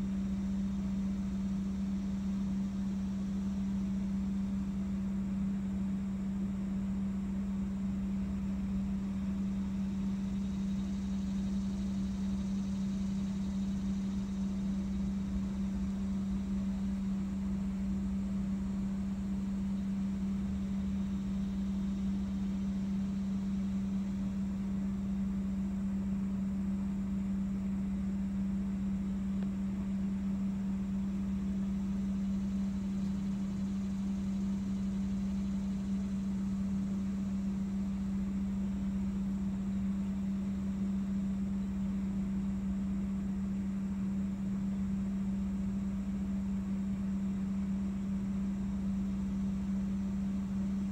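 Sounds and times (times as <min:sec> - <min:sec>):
machine hum: 0:00.0 - 0:50.9.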